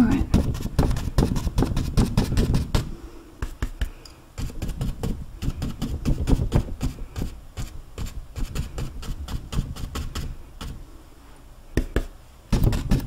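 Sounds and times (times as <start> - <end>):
paint brush dabbing on canvas: 0.0 - 10.8, 11.8 - 13.0.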